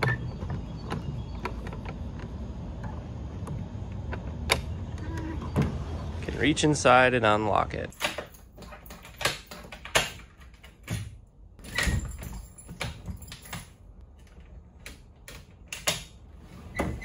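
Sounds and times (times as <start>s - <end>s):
lock clicks and clunks: 0.0s - 5.8s, 7.9s - 17.0s.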